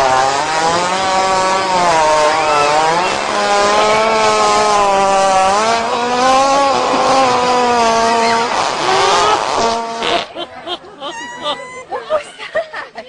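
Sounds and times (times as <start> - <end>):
long buzzing fart: 0.0 - 10.5.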